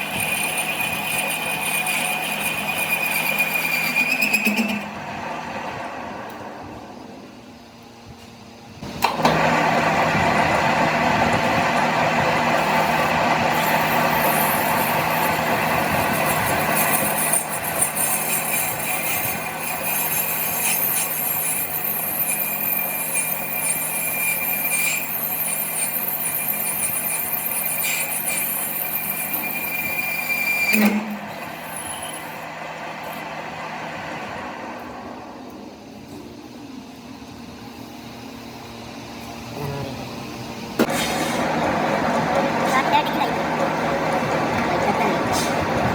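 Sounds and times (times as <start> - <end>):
workshop machine running: 0.0 - 45.9.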